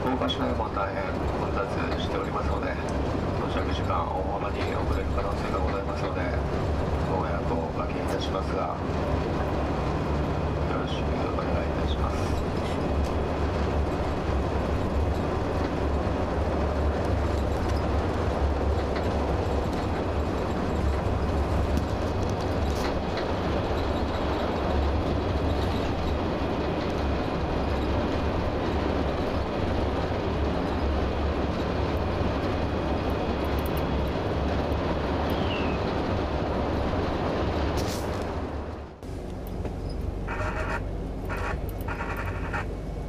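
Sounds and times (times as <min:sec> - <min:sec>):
coach engine and road noise: 0:00.0 - 0:43.0.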